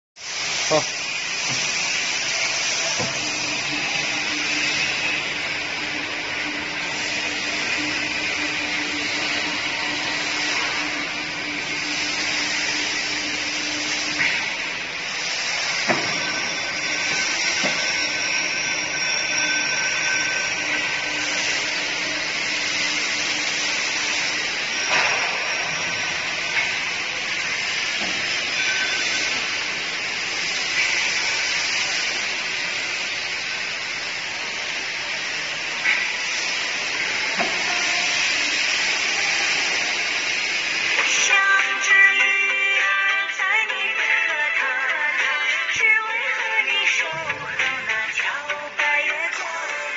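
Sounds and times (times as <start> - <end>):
deep fryer hissing: 0.2 - 43.1.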